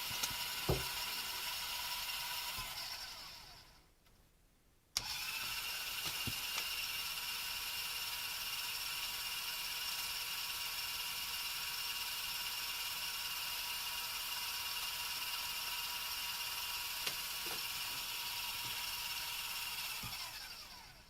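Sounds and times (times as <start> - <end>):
small electric motor whirring: 0.0 - 3.8, 5.0 - 21.0.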